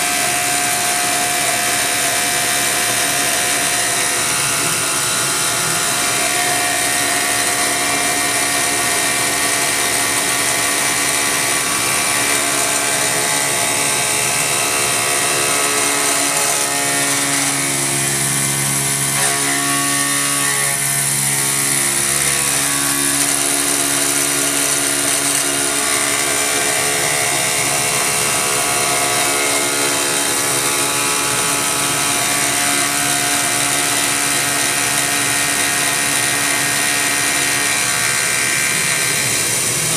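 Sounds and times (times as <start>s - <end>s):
milling machine cutting: 0.0s - 39.9s.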